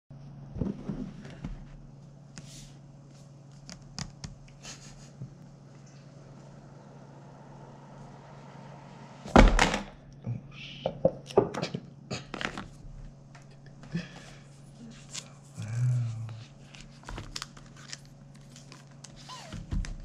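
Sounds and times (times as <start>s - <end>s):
faint low hum: 0.2s - 20.0s.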